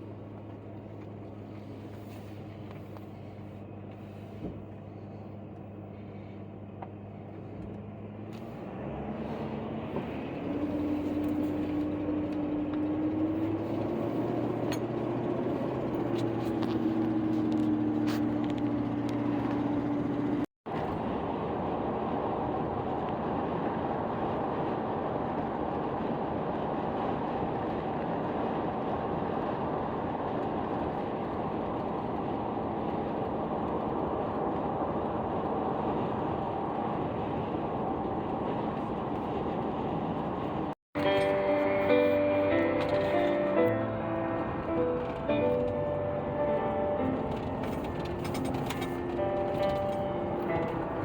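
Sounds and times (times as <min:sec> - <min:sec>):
engine hum: 0:00.0 - 0:51.0
road noise: 0:00.0 - 0:51.0.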